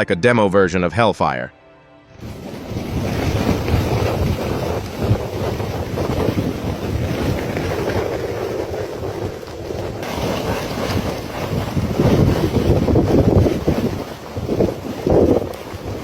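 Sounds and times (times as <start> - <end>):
burning gas roar: 2.2 - 16.0
wind buffeting microphone: 2.2 - 16.0.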